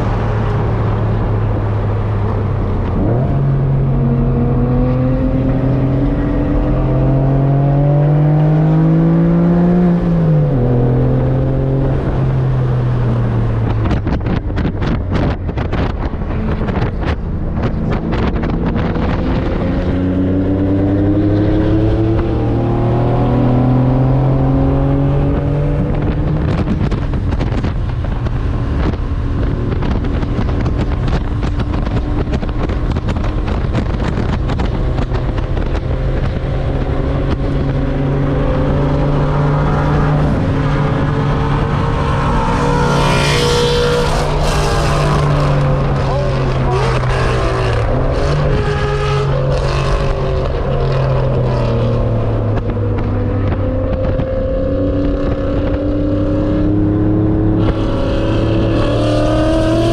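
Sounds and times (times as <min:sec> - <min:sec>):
car engine revving: 0:00.0 - 0:59.9
wind buffeting microphone: 0:00.0 - 0:59.9.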